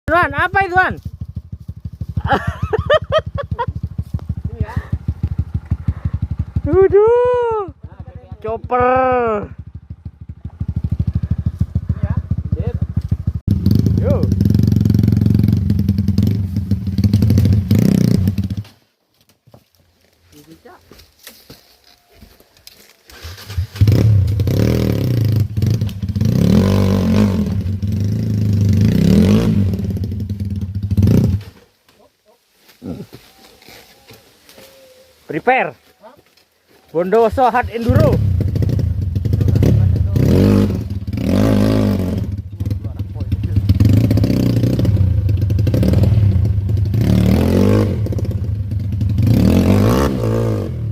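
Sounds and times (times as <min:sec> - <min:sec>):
dirt bike engine revving: 0:00.2 - 0:18.8, 0:23.1 - 0:31.6, 0:37.0 - 0:50.9.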